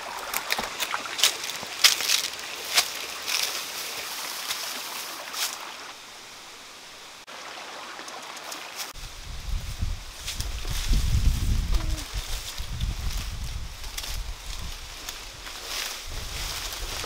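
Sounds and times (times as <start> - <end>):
footsteps on dry leaves: 0.0 - 5.9, 8.8 - 17.0
small stream rushing: 0.0 - 17.0.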